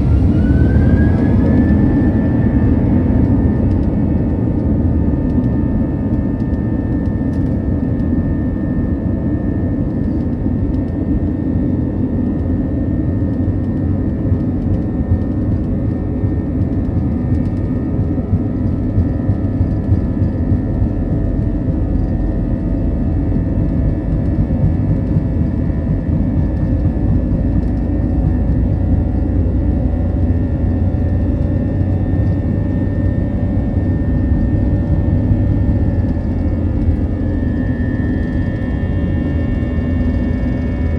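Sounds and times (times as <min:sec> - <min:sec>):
faint whining tones: 0:00.0 - 0:10.8, 0:12.5 - 0:40.9
jet engine cabin rumble: 0:00.0 - 0:40.9.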